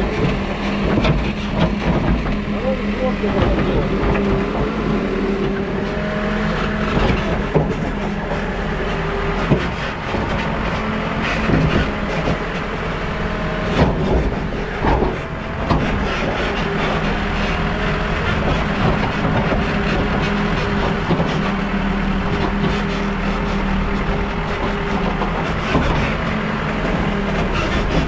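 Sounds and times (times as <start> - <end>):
diesel engine running: 0.0 - 28.0
hydraulic whine: 0.0 - 28.0.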